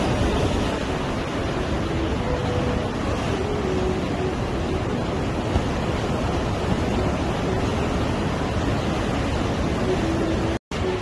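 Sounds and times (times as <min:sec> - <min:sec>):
sea surf breaking on rocks: 0:00.0 - 0:11.0
wind buffeting the microphone: 0:00.0 - 0:11.0.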